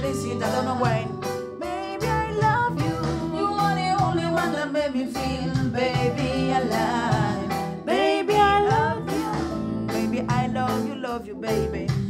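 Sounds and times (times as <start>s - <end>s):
instrumental backing with bass: 0.0s - 12.0s
person singing: 0.0s - 12.0s.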